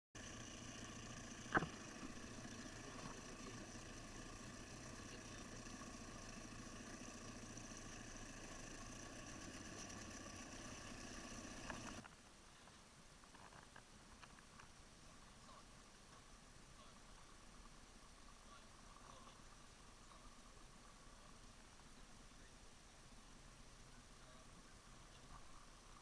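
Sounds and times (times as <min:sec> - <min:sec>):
faint motor hum: 0:00.2 - 0:13.2, 0:13.8 - 0:26.0.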